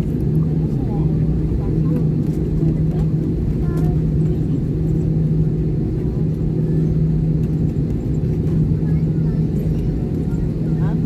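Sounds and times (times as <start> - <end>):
jet engines taxiing: 0.0 - 11.0
low cabin rumble: 0.0 - 11.0.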